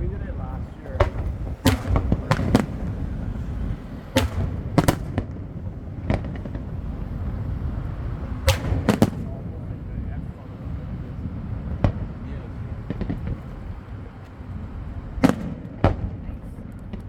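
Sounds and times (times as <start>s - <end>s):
fireworks bangs: 0.0s - 17.0s
steady low rumble: 0.0s - 17.0s.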